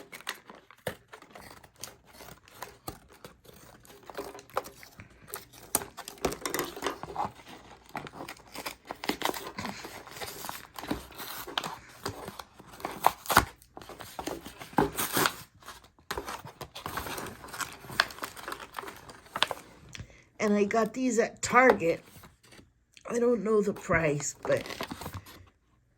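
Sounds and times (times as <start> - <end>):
packaging rustling and tearing: 0.0 - 20.0, 23.8 - 25.6.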